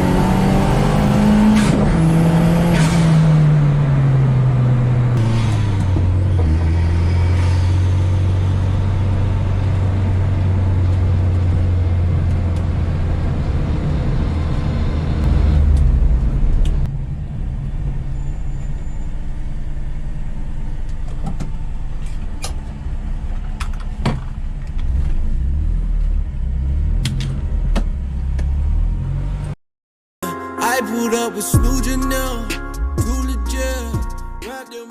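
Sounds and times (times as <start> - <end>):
car engine droning: 0.0 - 29.6.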